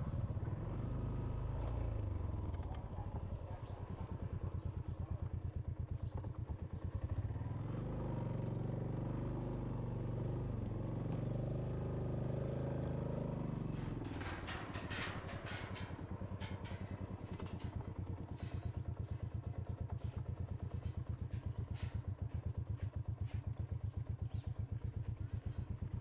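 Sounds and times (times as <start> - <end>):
small motorbike engine: 0.0 - 26.0.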